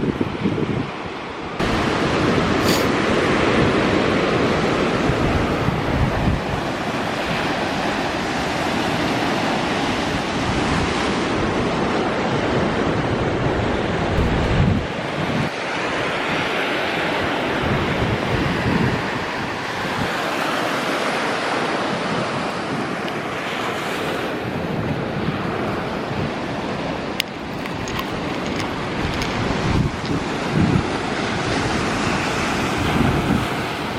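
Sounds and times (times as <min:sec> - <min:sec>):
wind buffeting microphone: 0:00.0 - 0:20.2, 0:24.3 - 0:33.9
ocean waves on sand: 0:00.0 - 0:33.9.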